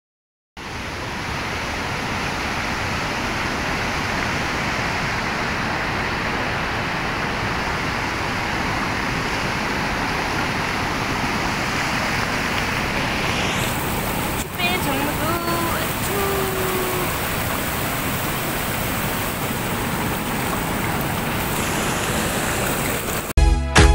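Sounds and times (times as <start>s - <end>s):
river rapids roaring over boulders: 0.6s - 23.3s.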